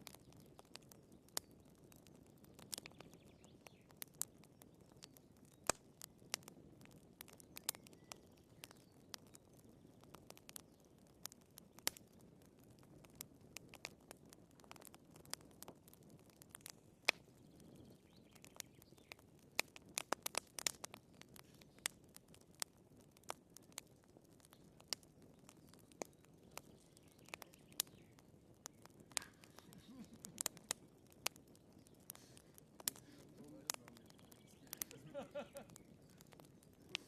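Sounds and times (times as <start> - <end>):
firewood popping and snapping: 0.0 - 37.0
flame rustle: 0.0 - 37.0.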